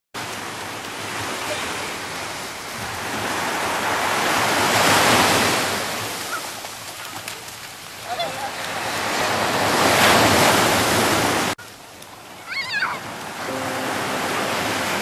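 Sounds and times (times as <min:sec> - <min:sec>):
waves washing on beach: 0:00.2 - 0:15.0.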